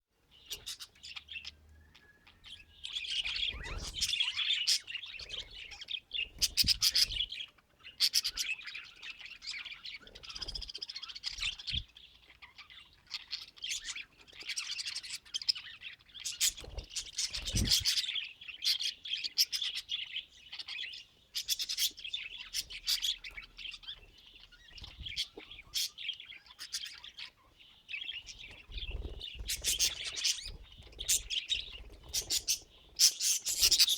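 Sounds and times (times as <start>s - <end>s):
budgerigars chirping and warbling: 0.2s - 33.9s.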